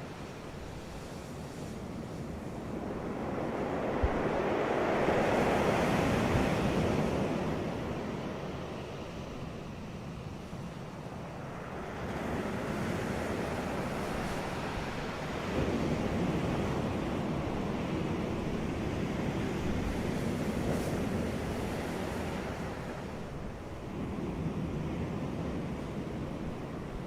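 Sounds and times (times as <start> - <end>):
ocean waves crashing on beach: 0.0 - 27.0
wind on microphone: 0.0 - 27.0.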